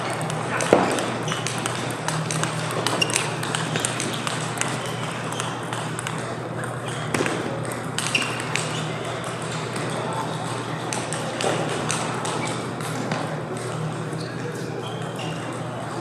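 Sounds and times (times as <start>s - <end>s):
table tennis balls clicking: 0.0s - 14.1s.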